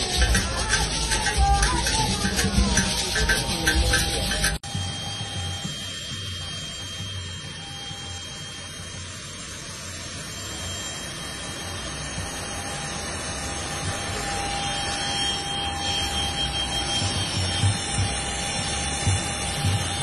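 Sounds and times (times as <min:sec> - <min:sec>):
high whine: 0:00.0 - 0:20.0
jet turbine engines running: 0:00.0 - 0:20.0.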